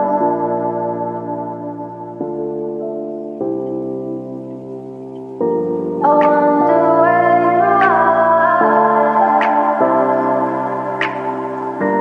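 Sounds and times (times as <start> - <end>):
sustained layered chords: 0.0 - 12.0.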